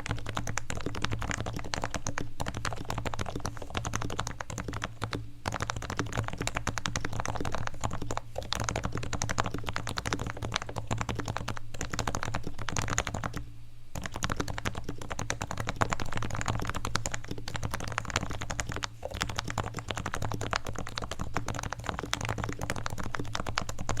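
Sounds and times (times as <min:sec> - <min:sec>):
fast keyboard typing: 0:00.0 - 0:24.0.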